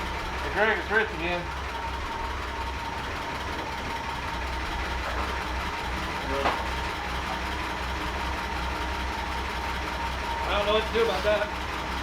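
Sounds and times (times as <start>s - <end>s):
jeep engine idling: 0.0s - 12.0s.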